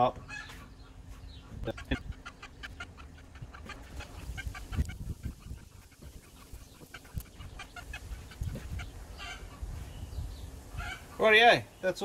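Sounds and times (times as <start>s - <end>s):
clucking calls: 0.1s - 9.8s, 10.7s - 11.4s.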